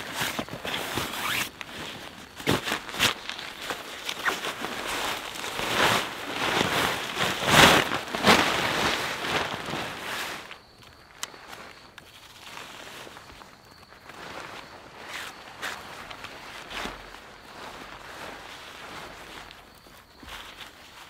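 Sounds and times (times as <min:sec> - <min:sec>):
nylon fabric rustling: 0:00.0 - 0:21.0.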